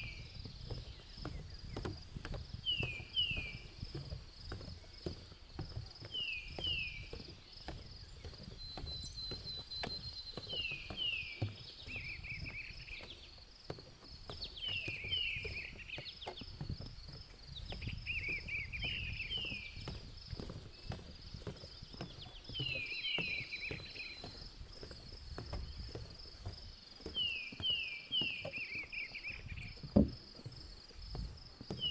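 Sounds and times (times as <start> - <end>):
birds whistling and warbling: 0.0 - 30.1, 31.7 - 31.9
footsteps on wooden boardwalk: 0.0 - 31.9.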